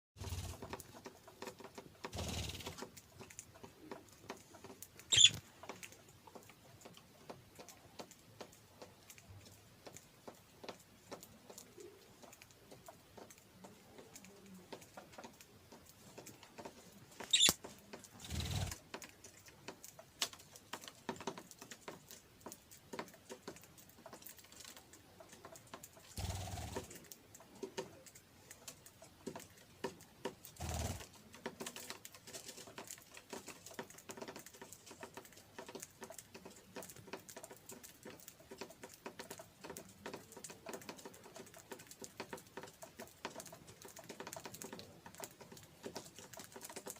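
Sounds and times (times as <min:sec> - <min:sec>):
birds pecking and cracking seed: 0:00.2 - 0:46.9.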